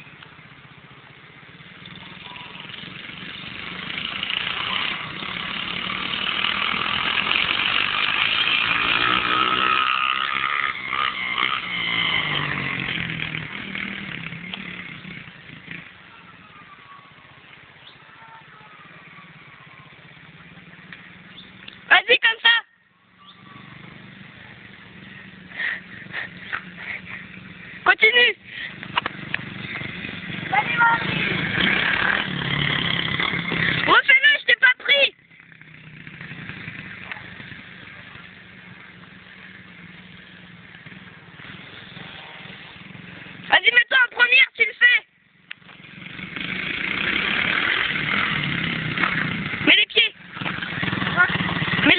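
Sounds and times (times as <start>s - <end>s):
dirt bike engine revving: 1.4s - 16.6s, 23.1s - 44.0s, 45.6s - 51.9s.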